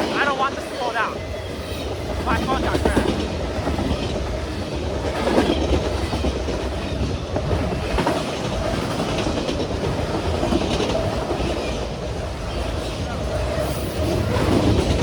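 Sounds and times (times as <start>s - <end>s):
freight train cars rolling past: 0.0s - 15.0s.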